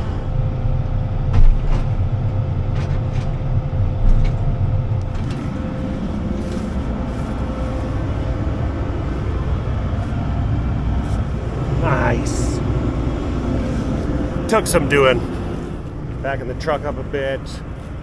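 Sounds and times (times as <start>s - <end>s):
diesel engine rumbling: 0.0s - 18.0s
faint steady whine: 0.0s - 18.0s.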